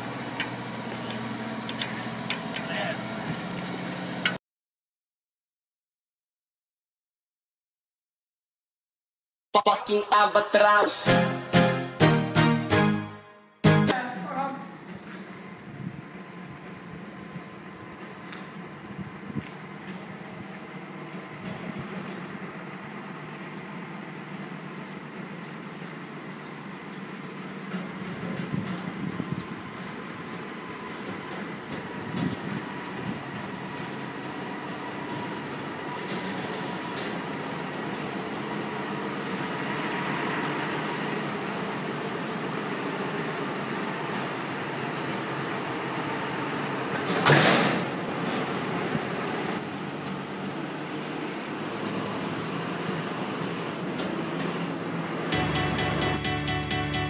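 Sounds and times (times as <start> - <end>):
tractor diesel engine running: 0.0 - 4.4, 13.6 - 47.2, 47.8 - 57.0.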